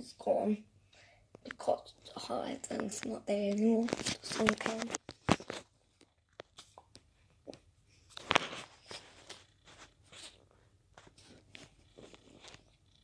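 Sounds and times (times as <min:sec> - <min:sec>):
soft rustles and clicks: 0:01.3 - 0:13.0.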